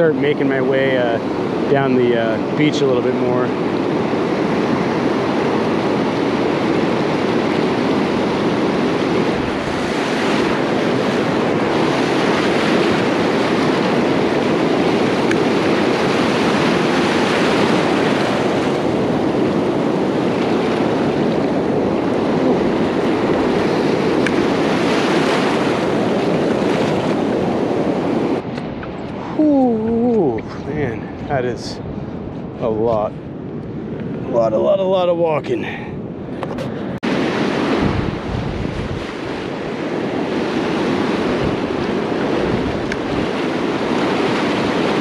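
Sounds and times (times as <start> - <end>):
surf breaking on beach: 0.0 - 31.8, 36.6 - 45.0.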